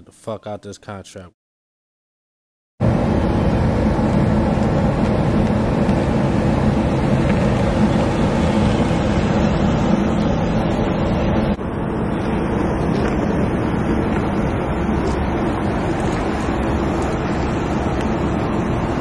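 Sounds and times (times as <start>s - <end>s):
car engine and road noise: 2.8s - 19.0s.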